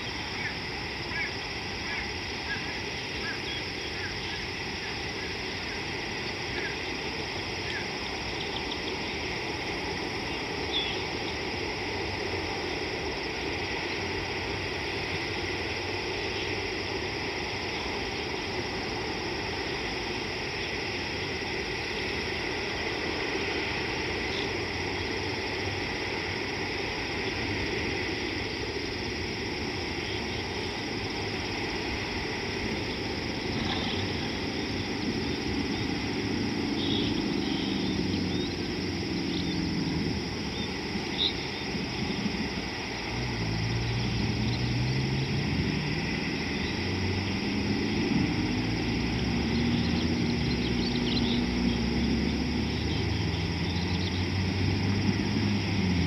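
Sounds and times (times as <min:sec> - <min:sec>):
bush ambience hiss: 0:00.0 - 0:56.0
low engine hum: 0:00.0 - 0:56.0.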